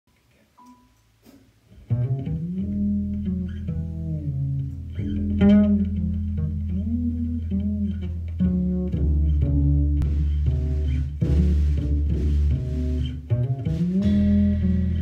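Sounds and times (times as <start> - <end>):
upright bass line: 1.8 - 15.0.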